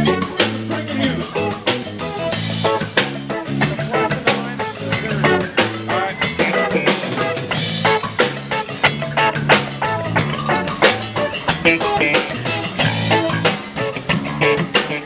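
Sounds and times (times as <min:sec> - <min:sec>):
bass guitar: 0:00.0 - 0:15.0
drum kit steady beat: 0:00.0 - 0:15.0
electric and acoustic guitars: 0:00.0 - 0:15.0.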